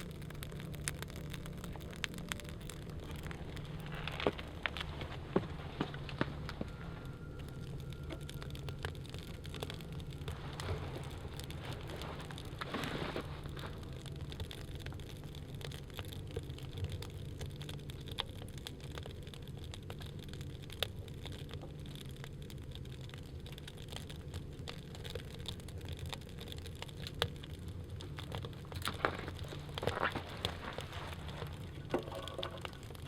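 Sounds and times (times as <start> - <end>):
low rumble of fire: 0.0 - 33.0
wood fire crackling: 0.0 - 33.0.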